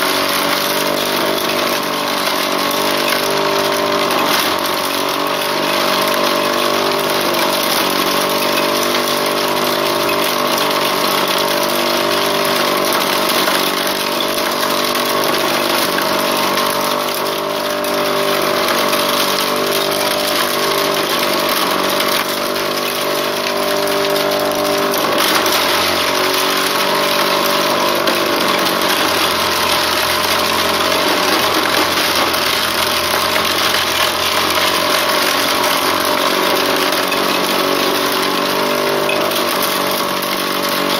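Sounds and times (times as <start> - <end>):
motor running: 0.0 - 40.9.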